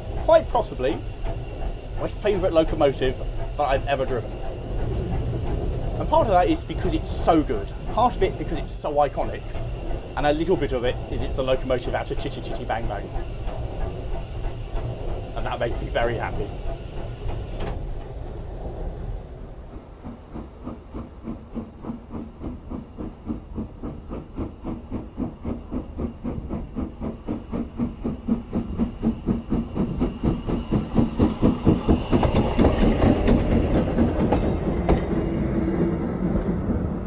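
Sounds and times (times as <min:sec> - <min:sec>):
steam locomotive exhaust chuffing: 0:00.0 - 0:37.0
train rumbling past: 0:00.0 - 0:37.0.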